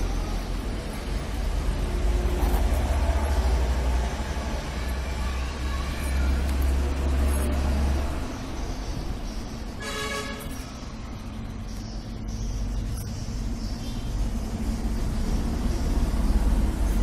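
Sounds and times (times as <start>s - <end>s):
low rumble of road traffic: 0.0s - 17.0s
vehicles passing: 0.0s - 17.0s.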